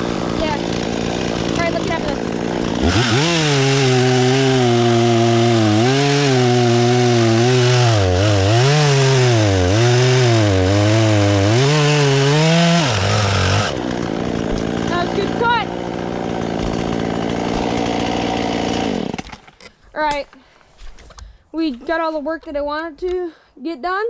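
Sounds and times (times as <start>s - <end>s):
chainsaw cutting through tree trunk: 0.0s - 19.8s.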